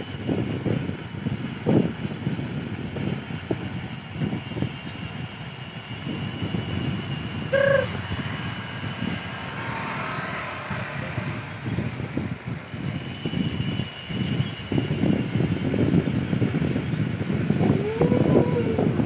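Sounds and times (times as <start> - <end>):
faint engine: 0.0 - 19.0
wind buffeting microphone: 0.0 - 19.0.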